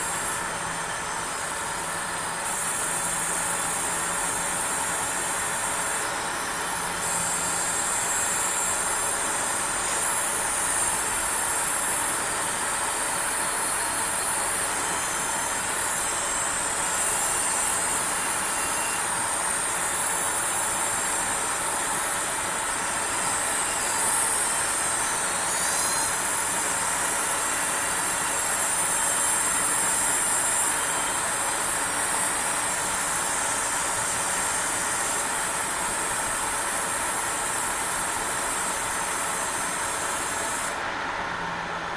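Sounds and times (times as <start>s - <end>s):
high-pitched electrical whine: 0.0s - 41.6s.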